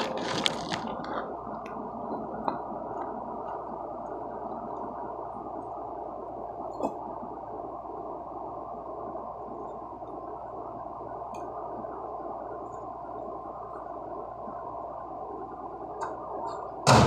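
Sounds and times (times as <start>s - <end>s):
excavator engine droning: 0.0s - 17.0s.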